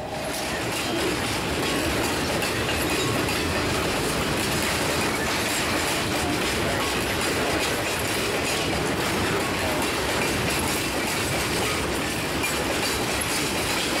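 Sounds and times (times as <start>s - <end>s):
freight train wheels clattering on rails: 0.0s - 14.0s.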